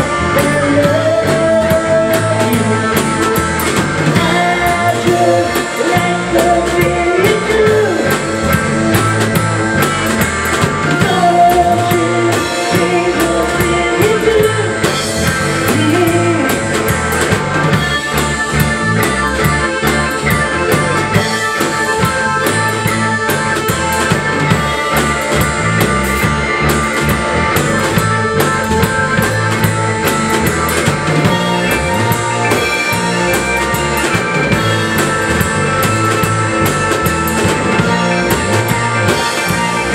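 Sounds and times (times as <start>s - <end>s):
bass guitar: 0.0s - 39.9s
drum kit: 0.0s - 39.9s
electric guitar: 0.0s - 39.9s
keyboard: 0.0s - 39.9s.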